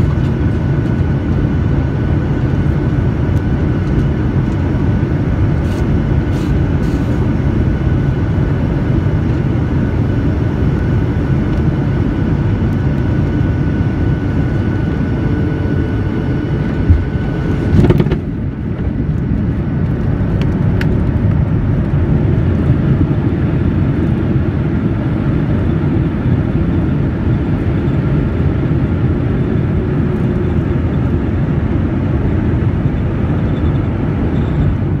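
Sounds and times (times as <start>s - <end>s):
engine and airflow rumble: 0.0s - 35.0s.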